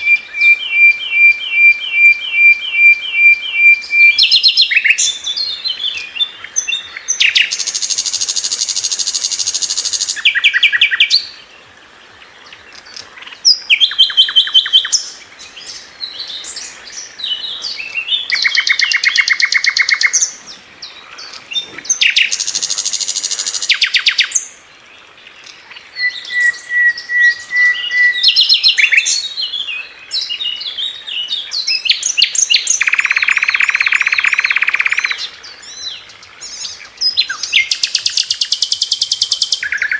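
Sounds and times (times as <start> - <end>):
bird singing trills and chirps: 0.0 - 39.9.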